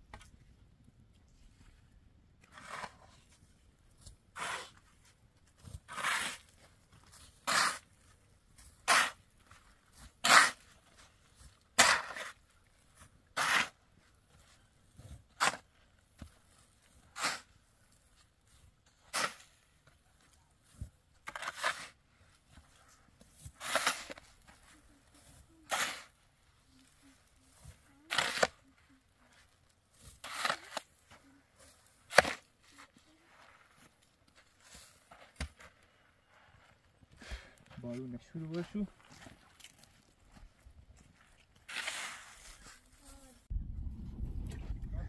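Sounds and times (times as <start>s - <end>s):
shovel scraping sand and gravel: 2.4s - 37.9s, 41.3s - 43.5s.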